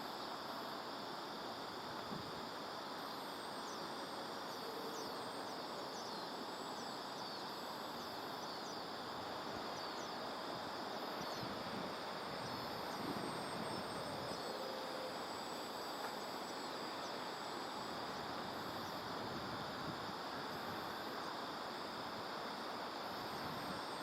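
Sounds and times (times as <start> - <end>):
soft even hiss: 0.0 - 24.0
insects chirring: 0.1 - 24.0.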